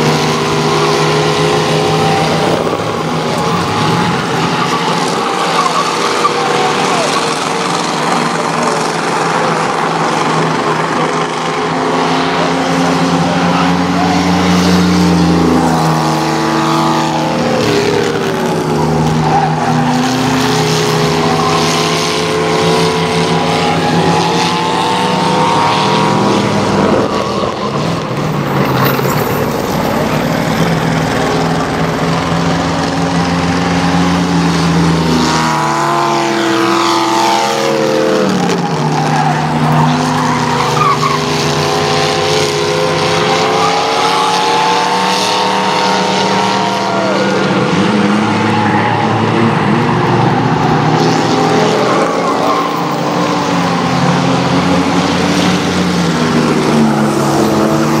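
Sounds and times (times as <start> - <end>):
race car engines accelerating: 0.0 - 58.0.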